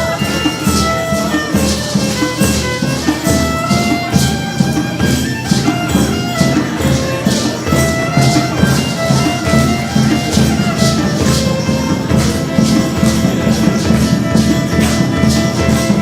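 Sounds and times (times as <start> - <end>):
drums: 0.0 - 16.0
hand percussion rattling: 0.0 - 16.0
violin melody: 0.0 - 16.0.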